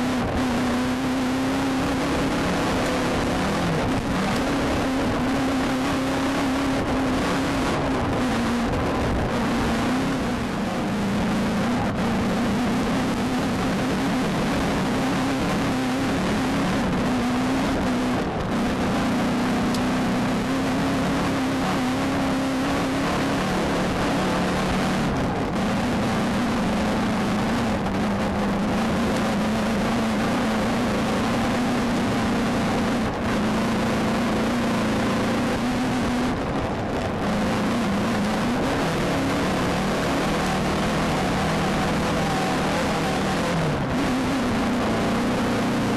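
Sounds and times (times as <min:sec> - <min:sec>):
race car engine: 0:00.0 - 0:45.9
wind tyre and chassis noise: 0:00.0 - 0:45.9.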